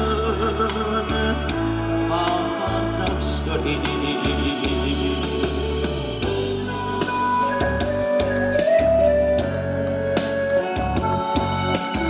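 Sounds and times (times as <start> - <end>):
backing track over speakers: 0.0 - 12.0
melody line with long notes: 0.0 - 12.0.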